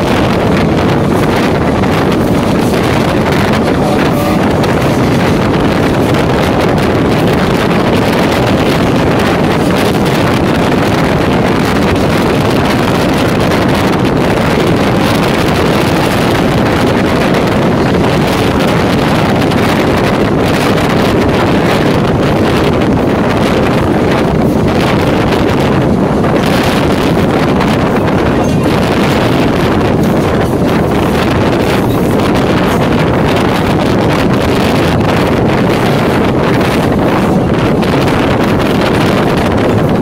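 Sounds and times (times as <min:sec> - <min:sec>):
train running noise: 0:00.0 - 0:40.0
wind buffeting microphone: 0:00.0 - 0:40.0.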